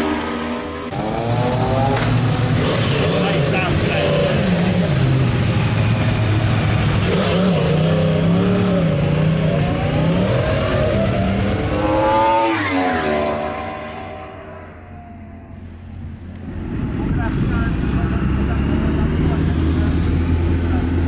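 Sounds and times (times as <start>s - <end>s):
motorcycle engine at speed: 0.0s - 15.4s, 16.4s - 21.0s.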